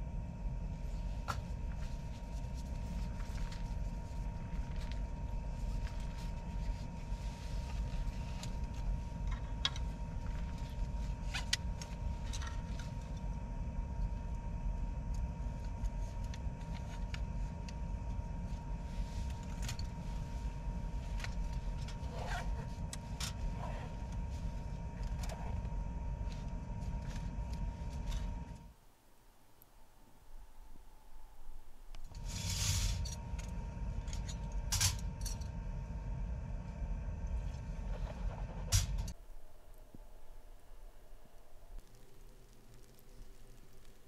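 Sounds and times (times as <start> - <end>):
faint steady whine: 0.0 - 44.0
steady low rumble: 0.0 - 44.0.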